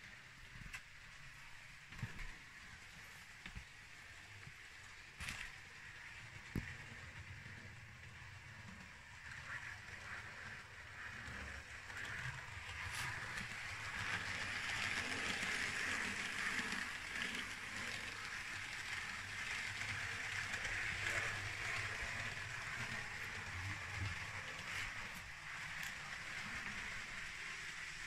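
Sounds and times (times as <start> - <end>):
model train wheels rumbling on rail: 0.0 - 28.0.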